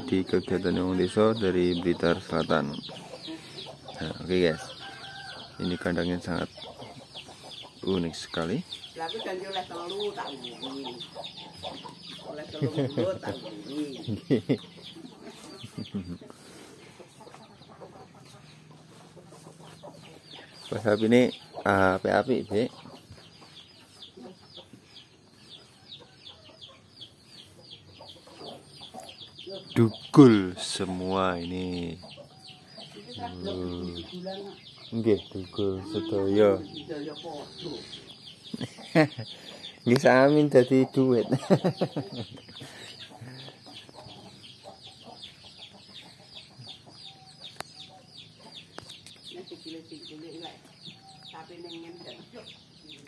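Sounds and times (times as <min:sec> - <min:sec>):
bird chirping: 0:00.0 - 0:53.0
chickens clucking: 0:00.0 - 0:53.0
chicks peeping: 0:00.0 - 0:53.0.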